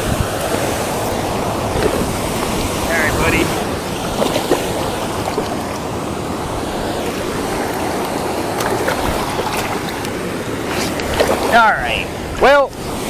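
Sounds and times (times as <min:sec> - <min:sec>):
moving water: 0:00.0 - 0:13.0
wind buffeting microphone: 0:00.0 - 0:13.0.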